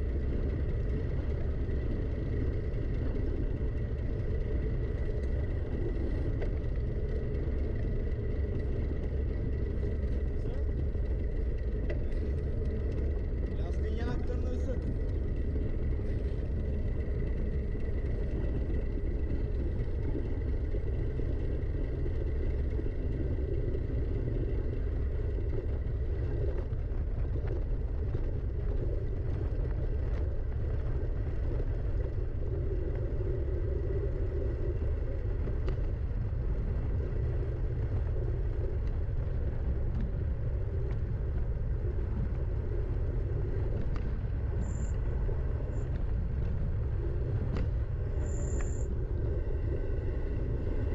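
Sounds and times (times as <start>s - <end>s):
bike tyres on forest trail: 0.0s - 50.9s
wind buffeting microphone: 0.0s - 50.9s.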